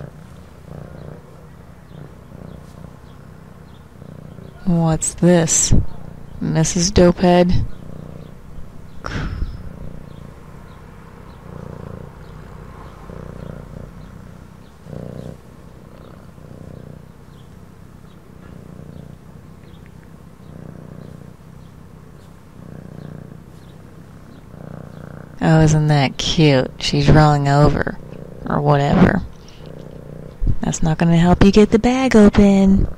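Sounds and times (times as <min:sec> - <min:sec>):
cat purring: 0:00.0 - 0:32.9.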